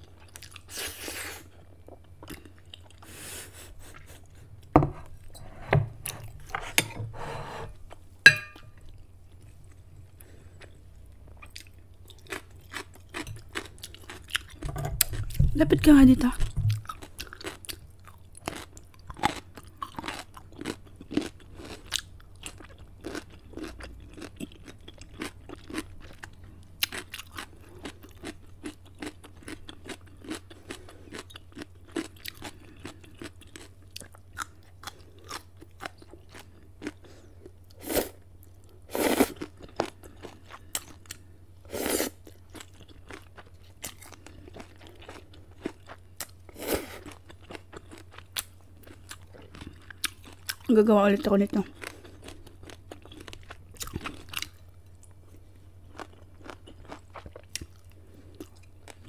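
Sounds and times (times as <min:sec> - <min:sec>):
crunchy chewing: 0:08.6 - 0:15.4, 0:16.7 - 0:50.7, 0:51.7 - 0:59.0.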